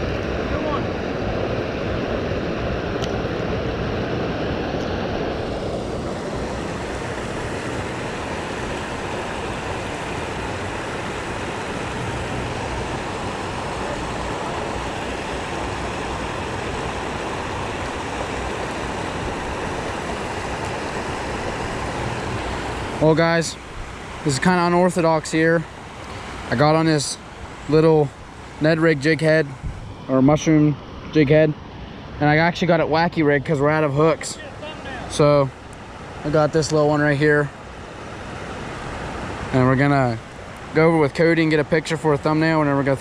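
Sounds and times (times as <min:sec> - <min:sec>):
creek water rushing over rapids: 0:00.0 - 0:43.0.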